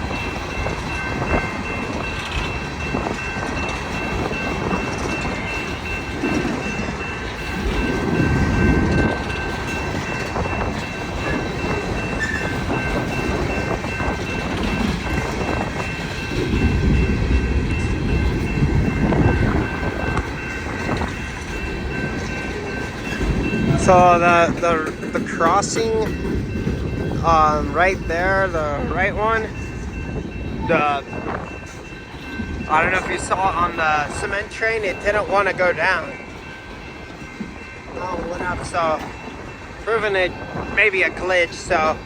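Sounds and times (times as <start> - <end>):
train wheels clattering over rails: 0.0 - 42.0
wind buffeting microphone: 0.0 - 42.0.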